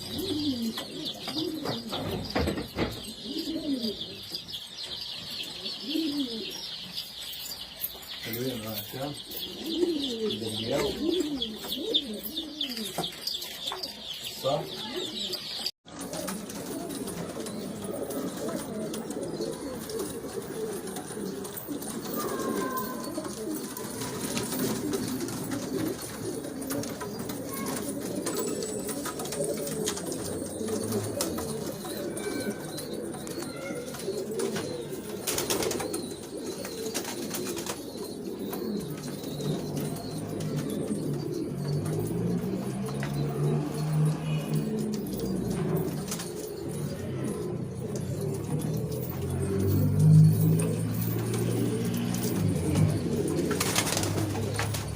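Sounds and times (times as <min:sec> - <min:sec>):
pigeon low drawn-out coo: 0:00.0 - 0:54.9
pigeons cooing: 0:00.0 - 0:54.9.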